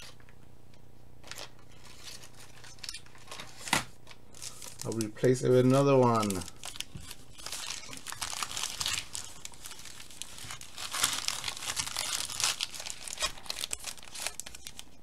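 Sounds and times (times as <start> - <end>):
card pack wrappers crinkling: 1.2 - 15.0.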